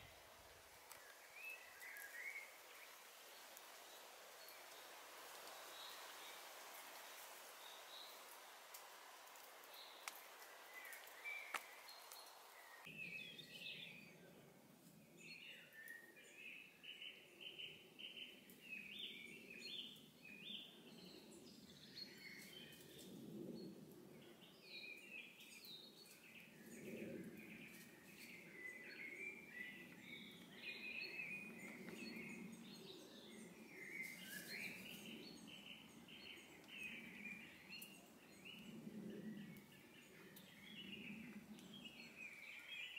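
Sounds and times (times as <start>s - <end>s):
faint birdsong chirps: 0.0s - 42.9s.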